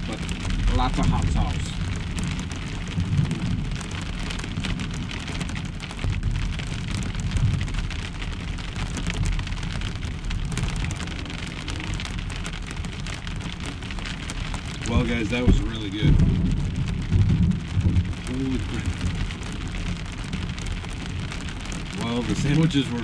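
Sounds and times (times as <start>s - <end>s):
heavy rain drumming on roof: 0.0s - 23.0s.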